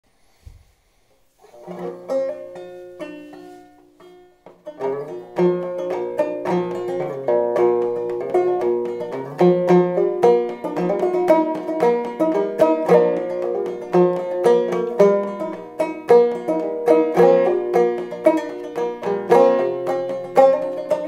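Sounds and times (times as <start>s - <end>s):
banjo clawhammer picking: 1.4s - 21.0s.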